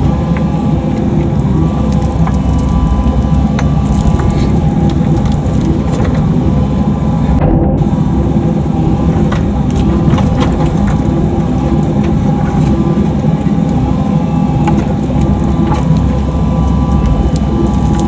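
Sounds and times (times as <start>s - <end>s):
excavator engine drone: 0.0s - 18.0s
hydraulic whine: 0.0s - 18.0s.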